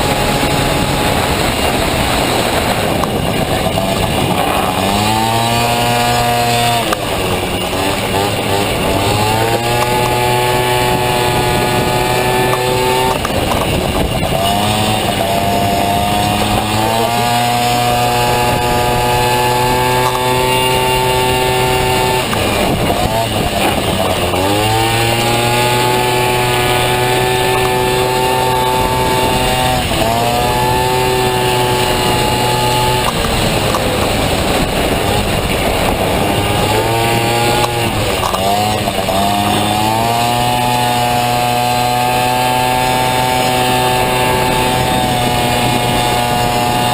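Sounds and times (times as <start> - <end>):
scooter engine revving: 0.0 - 46.9.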